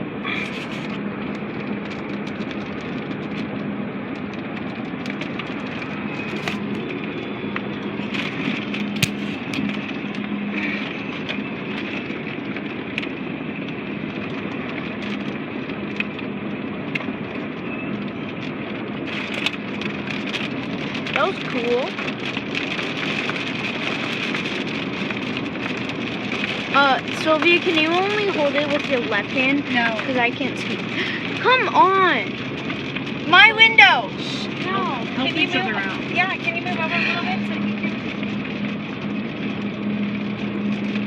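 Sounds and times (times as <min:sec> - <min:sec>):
car engine and road drone: 0:00.0 - 0:41.0.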